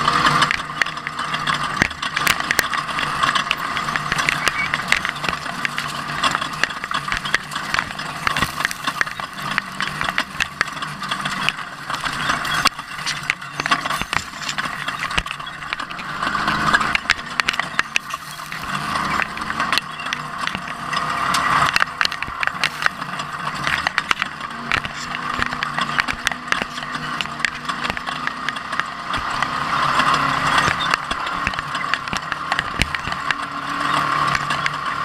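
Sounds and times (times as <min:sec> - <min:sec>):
truck engine revving: 0:00.0 - 0:35.0
rattles and knocks: 0:00.1 - 0:35.0.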